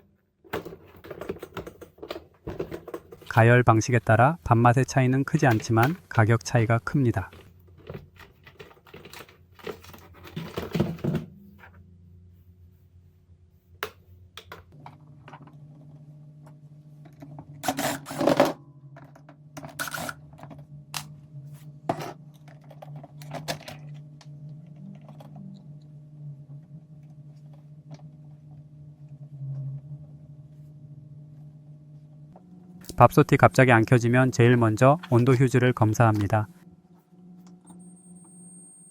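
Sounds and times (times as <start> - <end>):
low hum: 3.2 - 38.9.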